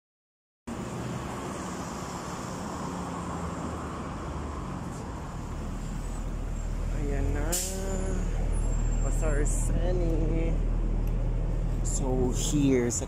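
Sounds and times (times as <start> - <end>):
bus engine rumble: 0.7 - 13.0
street traffic: 0.7 - 13.0.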